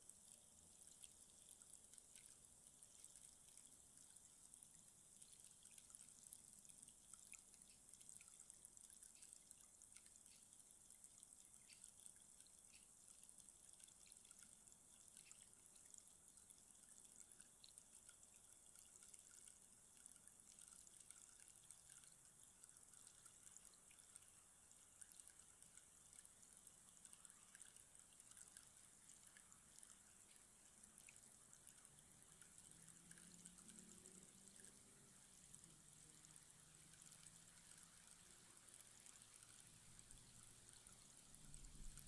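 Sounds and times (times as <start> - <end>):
rainstick trickling: 0.0 - 42.0.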